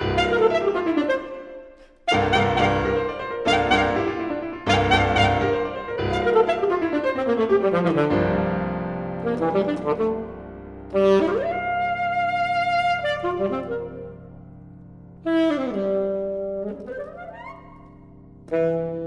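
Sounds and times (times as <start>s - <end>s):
classical piano playing: 0.0s - 19.0s.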